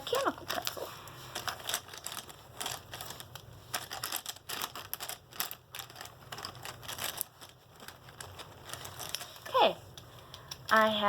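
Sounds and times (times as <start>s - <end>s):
pens and pencils clattering: 0.0s - 10.8s.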